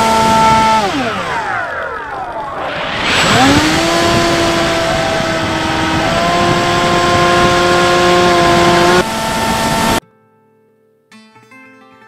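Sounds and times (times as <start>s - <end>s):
electric propeller whine: 0.0s - 10.0s
wind rush: 0.2s - 10.0s.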